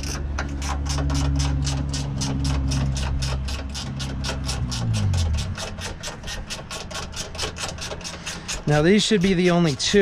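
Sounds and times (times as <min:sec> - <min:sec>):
ratchet clicking rapidly: 0:00.0 - 0:10.0.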